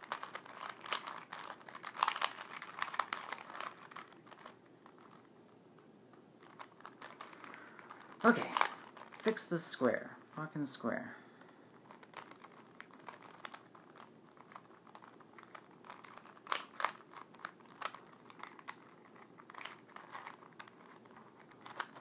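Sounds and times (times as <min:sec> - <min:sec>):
plastic puzzle cube clicking: 0:00.0 - 0:05.3, 0:06.4 - 0:09.5, 0:11.8 - 0:22.0.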